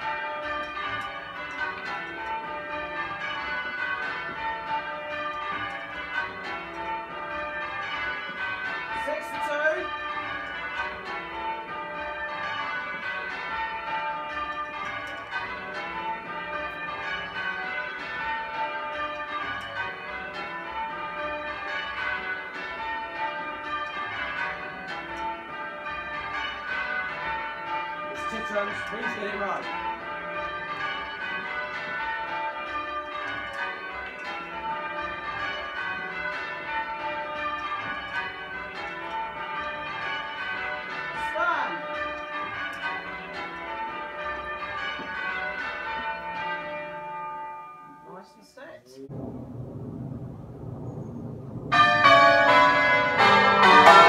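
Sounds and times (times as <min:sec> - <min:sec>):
church bells ringing: 0:00.0 - 0:48.4, 0:51.5 - 0:54.0.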